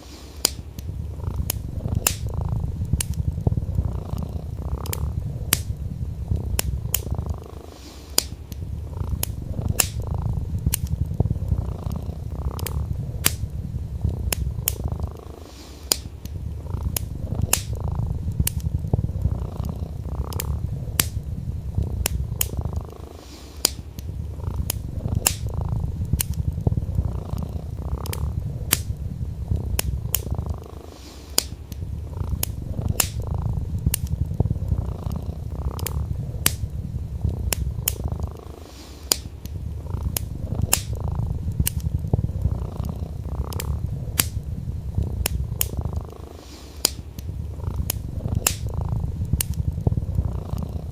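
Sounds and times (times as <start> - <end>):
cat purring: 0.0 - 50.9
wood fire crackling and popping: 0.0 - 50.9.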